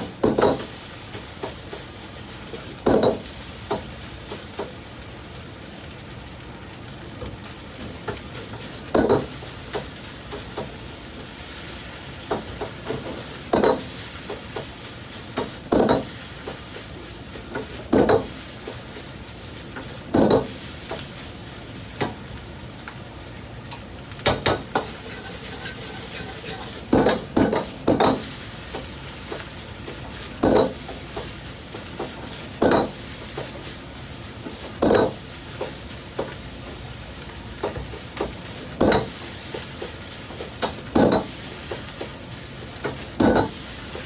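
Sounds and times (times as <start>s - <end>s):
rice frying hiss: 0.0s - 44.0s.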